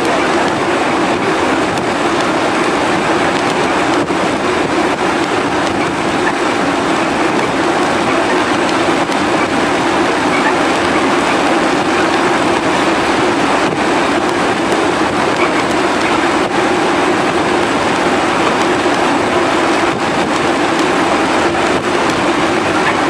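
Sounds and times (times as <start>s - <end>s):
ship engine hum: 0.0s - 23.0s
wind rushing: 0.0s - 23.0s.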